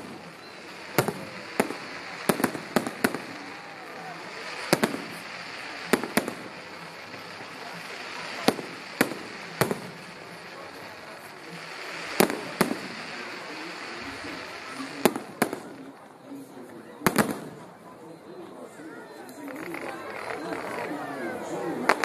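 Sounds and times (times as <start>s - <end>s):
fireworks bangs and cracks: 0.0s - 16.2s, 17.0s - 17.8s, 19.4s - 22.0s.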